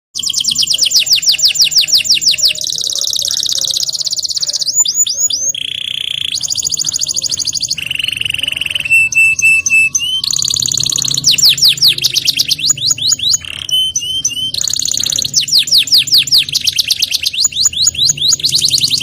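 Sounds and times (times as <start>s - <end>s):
canary singing: 0.2s - 19.0s.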